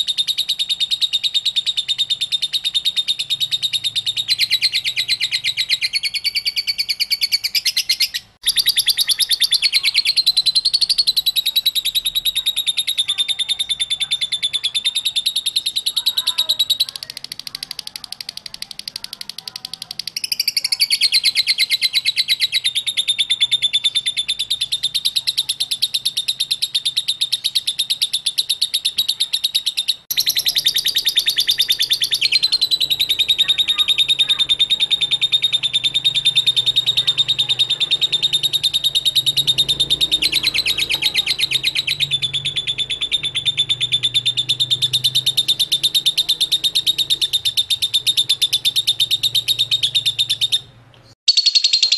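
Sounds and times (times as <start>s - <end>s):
lovebird chattering trill: 0.0s - 51.9s.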